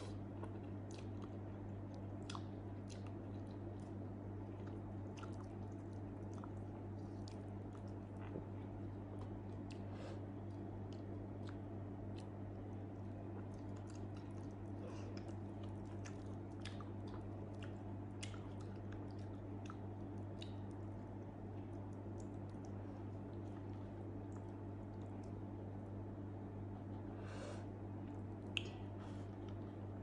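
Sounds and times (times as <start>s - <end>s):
person chewing with wet smacks: 0.0s - 26.1s, 28.0s - 30.0s
low electrical hum: 0.0s - 30.0s.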